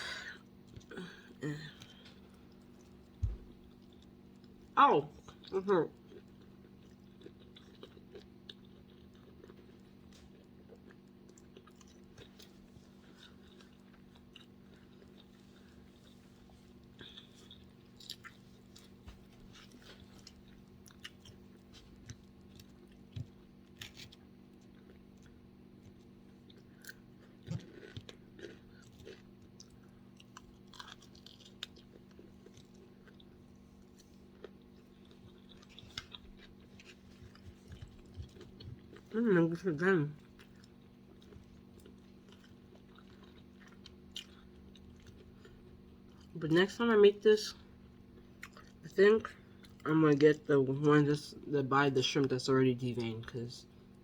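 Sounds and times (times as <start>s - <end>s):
person chewing food: 0.0s - 46.4s, 47.6s - 50.2s
steady low hum: 0.0s - 54.0s.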